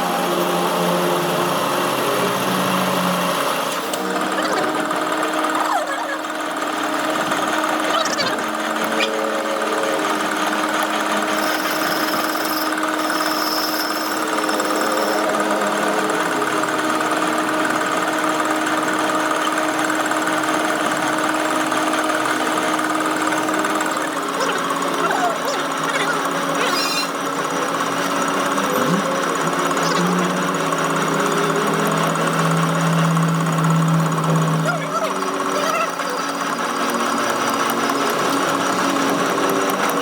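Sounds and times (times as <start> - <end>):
workshop machine motor running: 0.0 - 40.0.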